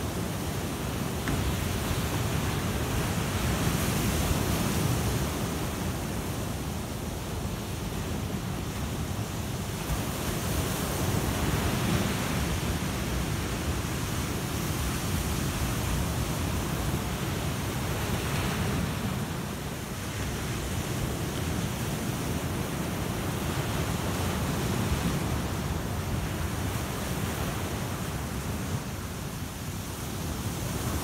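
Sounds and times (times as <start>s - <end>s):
ocean surf breaking on beach: 0.0s - 31.0s.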